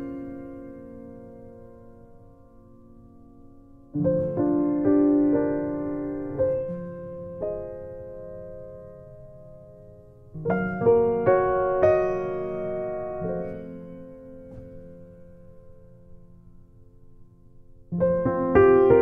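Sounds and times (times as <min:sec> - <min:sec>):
gentle piano chords: 0:00.0 - 0:19.0.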